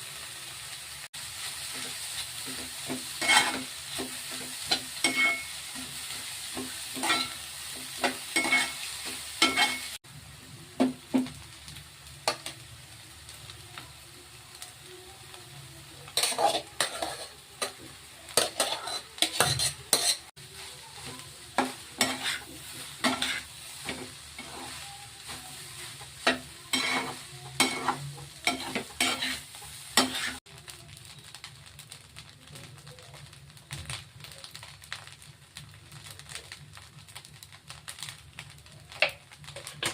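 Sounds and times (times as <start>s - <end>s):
rice sizzling in a pan: 0.0s - 39.9s.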